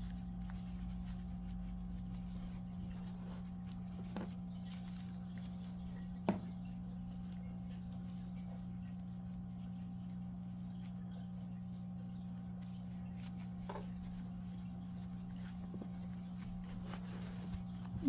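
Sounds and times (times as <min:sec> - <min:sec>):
soft yarn rustling: 0:00.0 - 0:18.0
steady low hum: 0:00.0 - 0:18.0.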